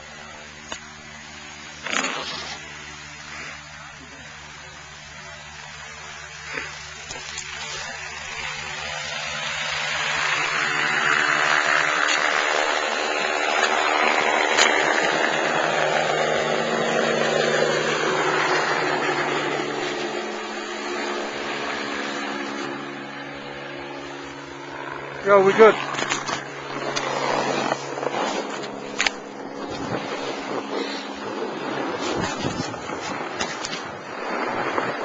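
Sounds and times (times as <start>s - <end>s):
helicopter rotor and engine: 0.0s - 35.0s.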